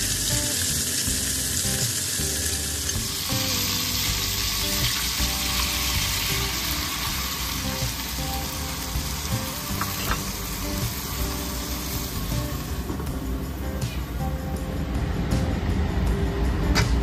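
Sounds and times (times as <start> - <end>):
food sizzling in a pan: 0.0 - 14.2.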